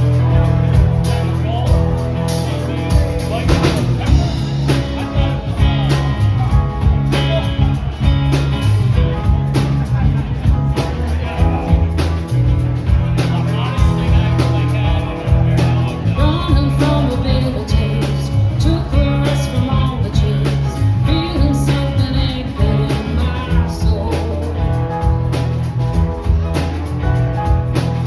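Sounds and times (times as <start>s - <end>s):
band playing blues-rock: 0.0s - 28.0s.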